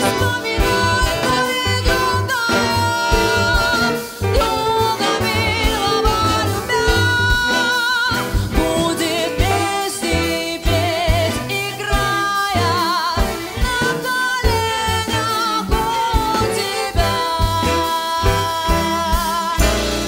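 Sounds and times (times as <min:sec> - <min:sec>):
drums: 0:00.0 - 0:20.0
piano: 0:00.0 - 0:20.0
walking double bass: 0:00.0 - 0:20.0.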